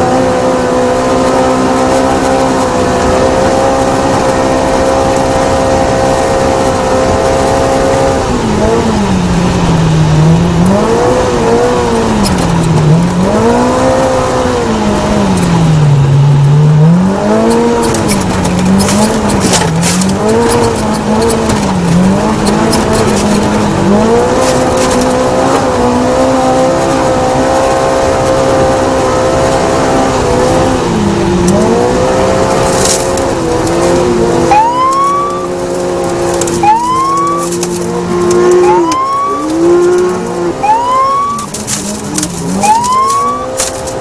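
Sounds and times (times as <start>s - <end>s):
race car engine revving: 0.0s - 44.0s.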